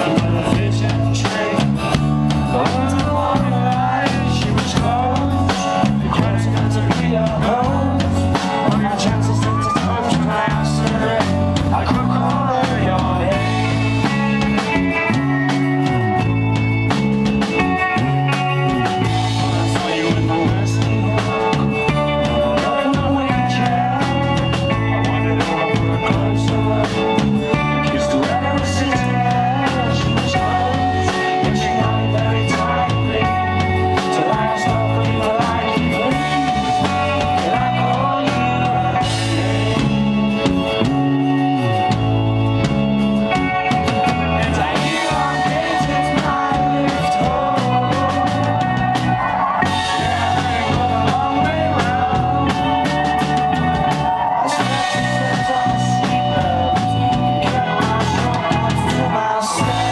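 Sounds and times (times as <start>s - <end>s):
man singing: 0.0s - 16.3s, 17.4s - 42.0s, 43.2s - 59.9s
bass line: 0.0s - 59.9s
drum kit beat: 0.0s - 59.9s.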